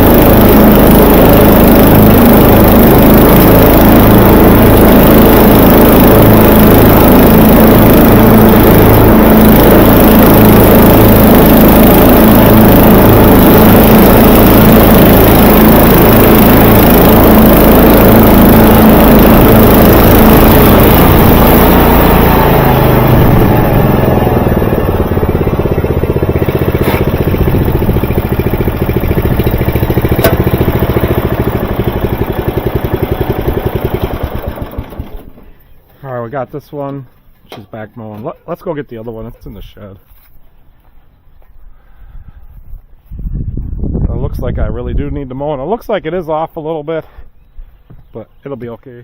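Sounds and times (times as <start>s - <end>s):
riding lawnmower engine running: 0.0s - 39.5s.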